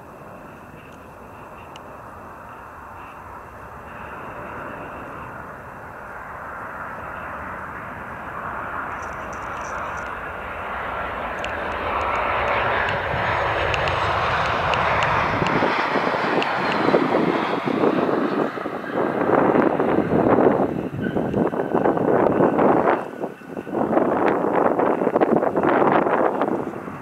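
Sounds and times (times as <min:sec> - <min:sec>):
jet airliner approaching: 0:00.0 - 0:27.0.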